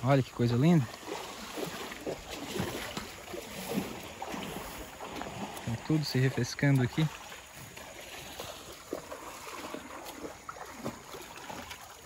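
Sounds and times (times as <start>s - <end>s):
cows splashing through water: 0.0s - 12.0s
creek water running: 0.0s - 12.0s.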